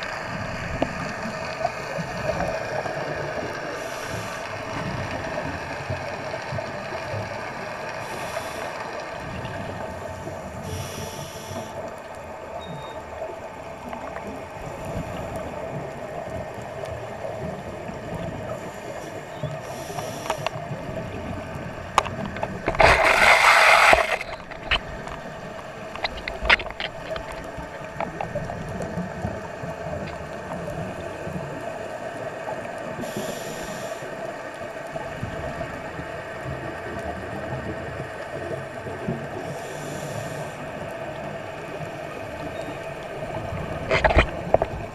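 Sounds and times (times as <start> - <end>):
underwater hiss and hum: 0.0 - 44.9.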